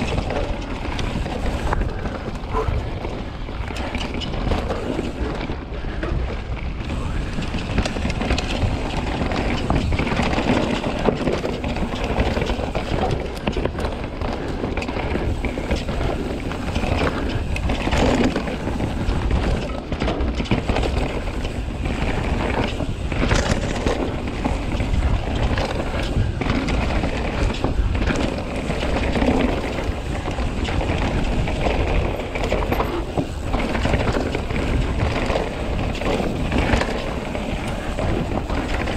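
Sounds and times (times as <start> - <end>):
bike rattling over bumps: 0.0 - 38.9
bike tyres crunching on dirt: 0.0 - 38.9
wind noise on microphone: 0.0 - 38.9.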